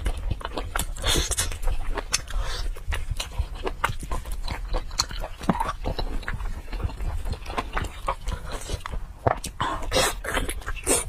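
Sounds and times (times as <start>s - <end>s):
wet chewing and biting: 0.0s - 11.0s.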